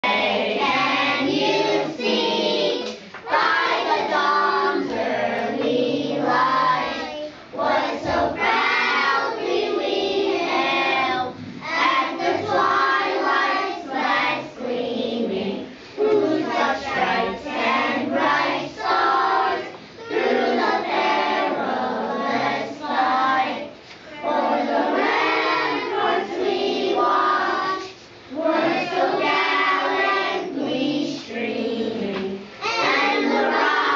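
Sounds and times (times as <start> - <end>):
children singing in unison: 0.0 - 33.9.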